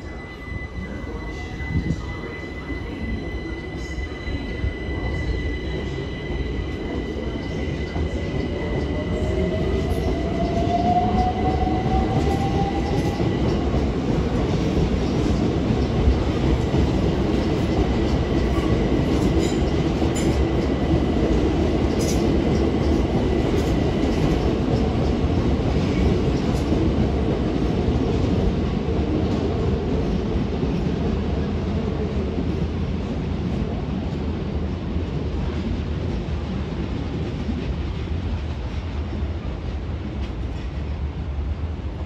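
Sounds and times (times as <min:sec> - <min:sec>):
train rumble and rail noise: 0:00.0 - 0:42.0.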